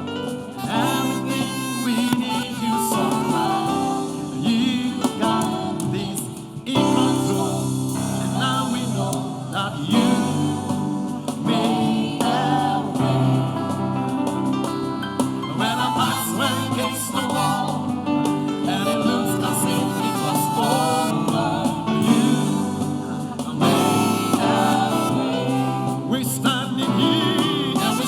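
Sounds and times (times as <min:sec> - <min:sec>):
gospel singing over a band: 0:00.0 - 0:28.0.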